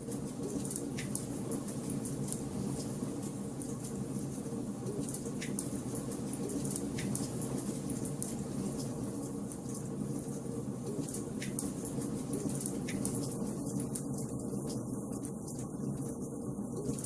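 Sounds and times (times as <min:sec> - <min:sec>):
fire crackling and popping: 0:00.0 - 0:16.2
wood fire burning: 0:00.0 - 0:17.0.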